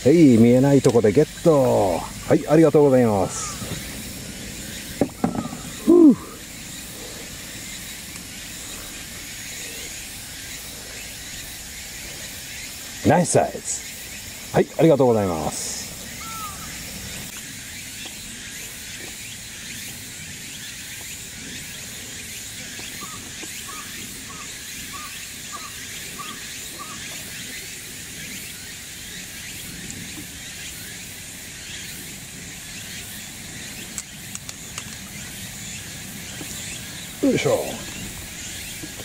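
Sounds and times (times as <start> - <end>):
bird calling: 0.0 - 39.0
high-pitched outdoor hiss: 0.0 - 39.0.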